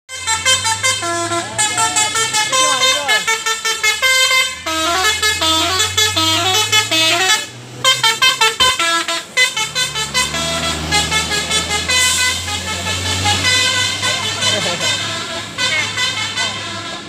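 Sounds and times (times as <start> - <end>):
bus horn playing a tune: 0.1 - 17.0
low engine hum: 0.2 - 17.0.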